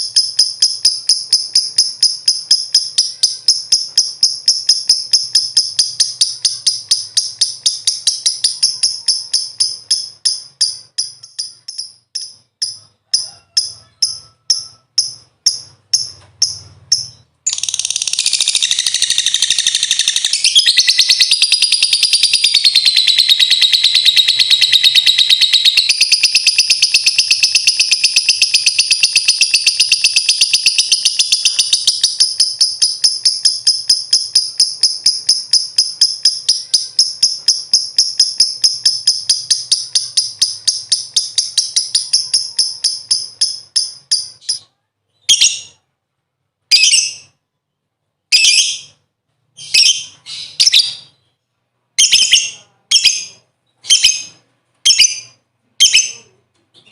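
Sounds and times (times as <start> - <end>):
lovebird chattering trill: 0.0 - 44.6, 52.0 - 56.9.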